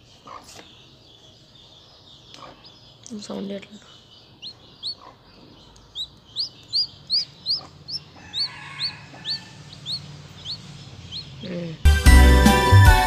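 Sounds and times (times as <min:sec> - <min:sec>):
baby bird peeping: 0:00.2 - 0:11.9.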